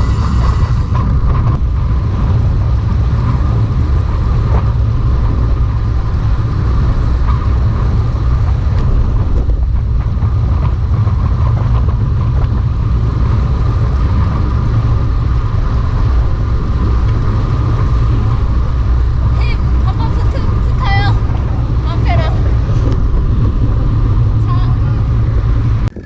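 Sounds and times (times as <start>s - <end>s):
steady hum: 0.0s - 11.3s, 12.0s - 26.0s
wind buffeting microphone: 0.0s - 26.0s.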